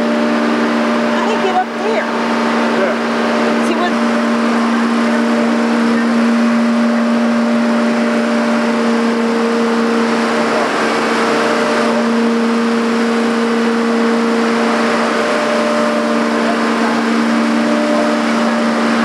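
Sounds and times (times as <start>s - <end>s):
higher pitched hum: 0.0s - 19.0s
steady machine hum: 0.0s - 19.0s.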